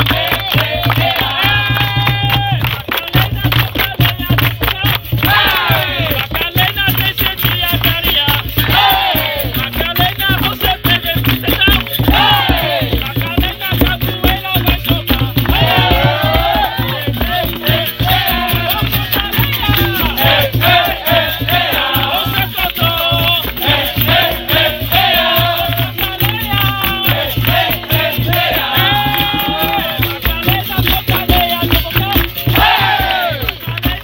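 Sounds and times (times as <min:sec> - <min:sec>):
voices singing: 0:00.0 - 0:02.6, 0:05.2 - 0:06.3, 0:08.5 - 0:10.9, 0:12.0 - 0:34.0
hand percussion: 0:00.0 - 0:34.0
shaker rattle: 0:04.7 - 0:34.0.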